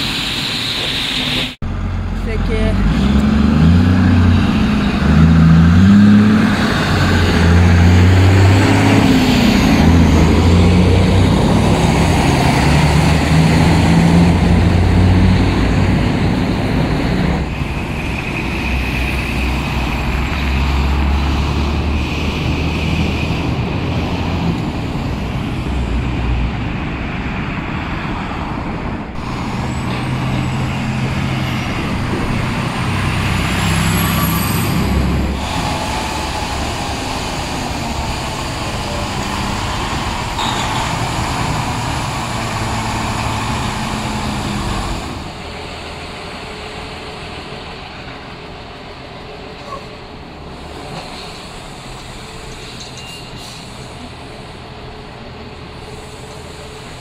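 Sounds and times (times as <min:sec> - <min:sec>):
heavy diesel trucks driving past: 0:00.0 - 0:57.0
road and traffic noise: 0:00.0 - 0:57.0.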